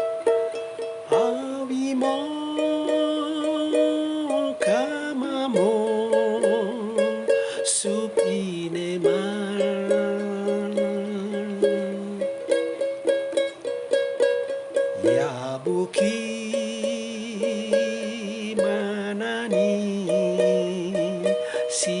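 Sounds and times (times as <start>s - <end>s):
person singing long notes: 0.0s - 13.6s, 14.7s - 22.0s
ukulele strumming chords: 0.0s - 22.0s.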